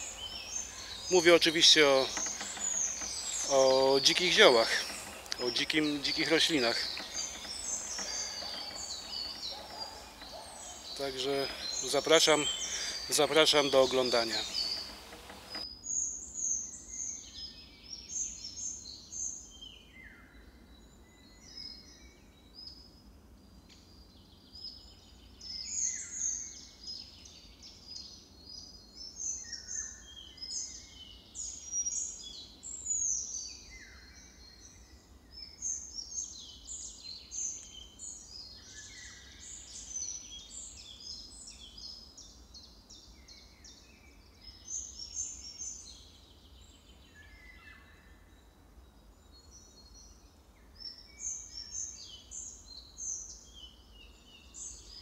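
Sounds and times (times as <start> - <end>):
songbirds singing: 0.0 - 22.8, 23.6 - 55.0.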